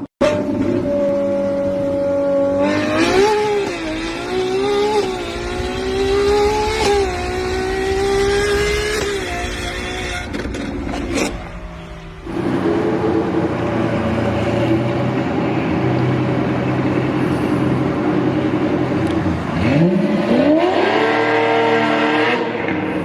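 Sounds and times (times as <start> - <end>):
loud car engine revving: 0.0 - 23.0.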